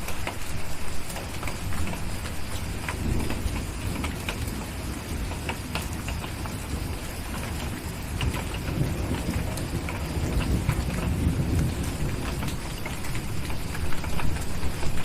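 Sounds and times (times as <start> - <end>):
steady rain: 0.0 - 15.0
wood fire crackling: 0.0 - 15.0
distant thunder rumbling: 0.7 - 15.0.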